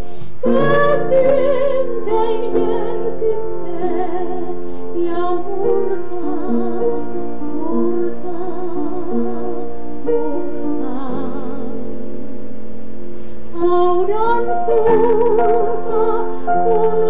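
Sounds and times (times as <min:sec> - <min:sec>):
woman singing with vibrato: 0:00.0 - 0:12.3, 0:13.5 - 0:17.0
keyboard accompaniment: 0:00.0 - 0:17.0.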